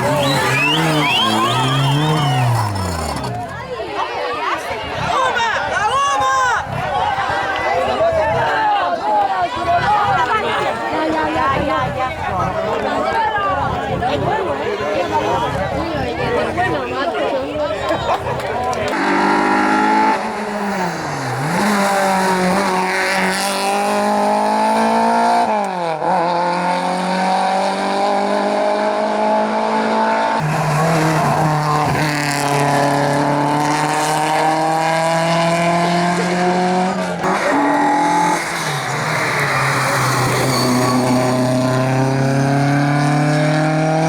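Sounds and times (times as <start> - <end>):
race car engine at full throttle: 0.0 - 44.0.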